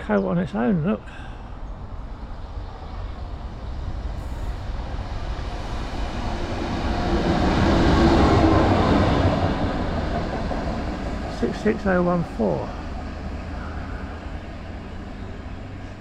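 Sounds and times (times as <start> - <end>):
diesel locomotive passing: 0.0 - 16.0.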